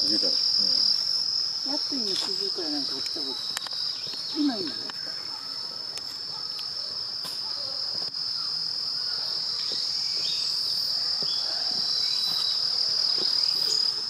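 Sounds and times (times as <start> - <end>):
insects singing: 0.0 - 14.0.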